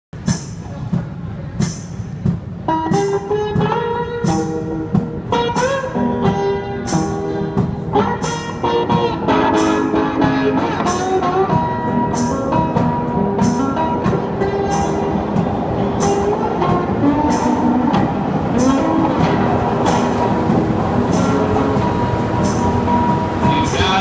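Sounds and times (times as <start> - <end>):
acoustic guitar: 0.2 - 24.0
washboard and cymbal beat: 0.2 - 24.0.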